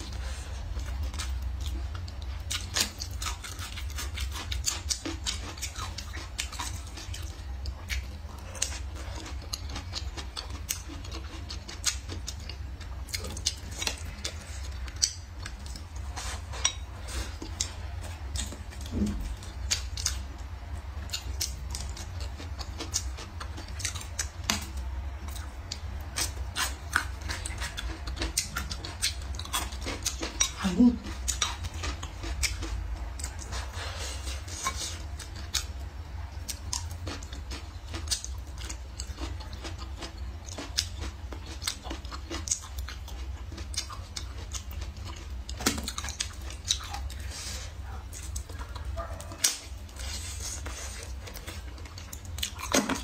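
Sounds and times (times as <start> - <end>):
chewing and crunching: 0.0 - 53.0
steady low hum: 0.0 - 53.0.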